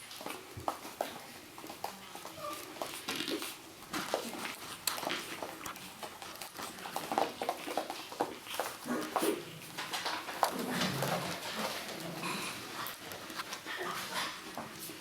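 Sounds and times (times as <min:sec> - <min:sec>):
puppies' claws clicking and tapping: 0:00.0 - 0:15.0.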